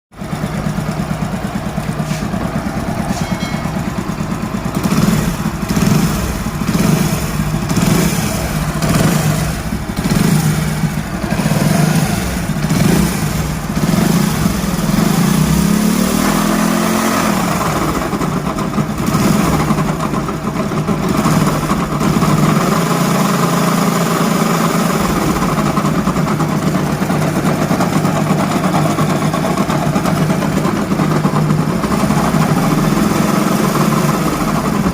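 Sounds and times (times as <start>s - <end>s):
motorcycle engine revving and idling: 0.1s - 34.9s.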